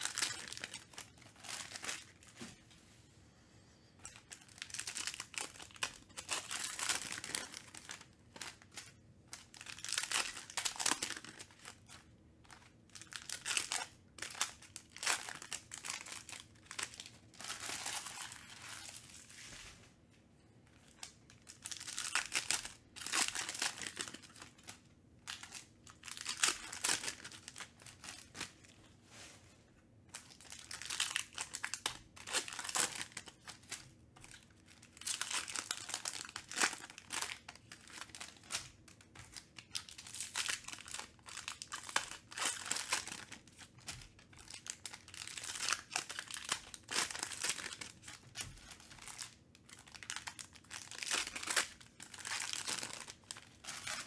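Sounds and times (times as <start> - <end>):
foil wrappers crinkling and tearing: 0.0 - 2.4, 4.0 - 19.7, 20.8 - 29.0, 30.1 - 54.0.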